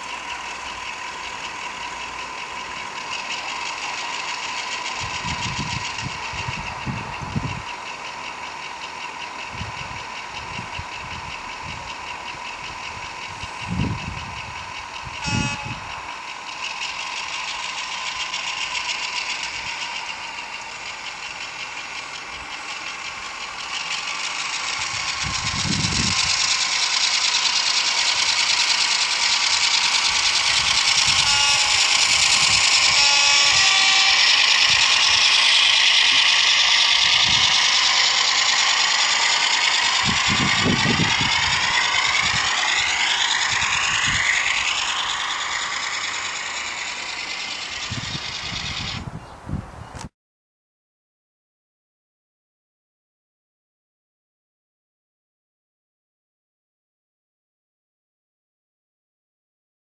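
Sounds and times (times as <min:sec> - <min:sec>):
diesel engine sound from small speaker: 0:00.0 - 0:50.1.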